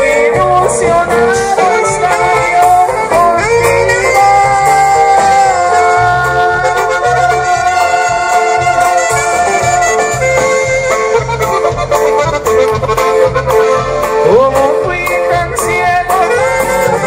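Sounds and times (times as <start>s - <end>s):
accordion holding long notes: 0.0s - 17.0s
repeating bass line: 0.0s - 17.0s.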